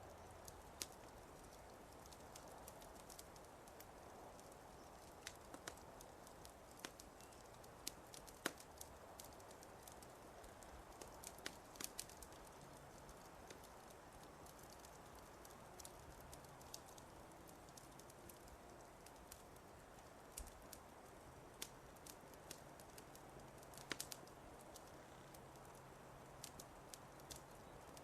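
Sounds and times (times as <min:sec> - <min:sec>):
faint steady hiss: 0:00.0 - 0:28.0
fireplace crackling and popping: 0:00.0 - 0:28.0.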